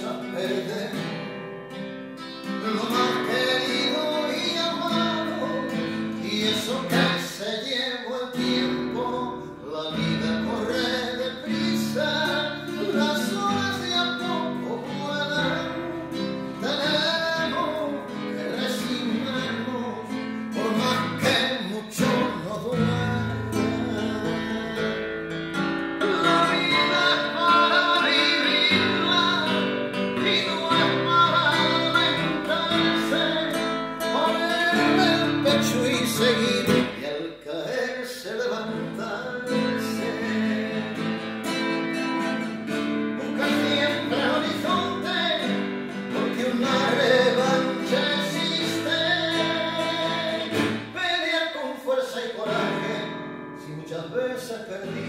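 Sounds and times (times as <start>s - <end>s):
amplified nylon-string guitar: 0.0s - 55.0s.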